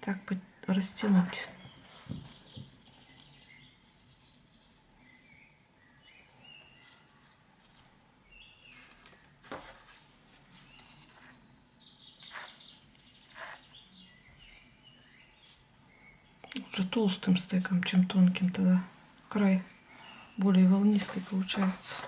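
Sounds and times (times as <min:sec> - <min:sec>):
small birds chirping: 0:00.6 - 0:07.2, 0:08.2 - 0:18.8, 0:19.4 - 0:22.0.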